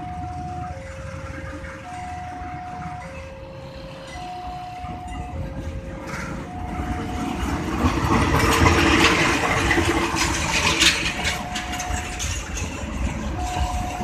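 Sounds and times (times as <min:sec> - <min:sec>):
level crossing alarm: 0:00.0 - 0:14.0
train rumble: 0:00.0 - 0:14.0.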